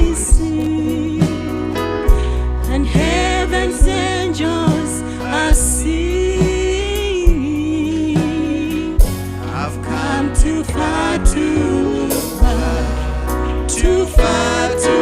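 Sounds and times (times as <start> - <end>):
gospel music: 0.0 - 15.0.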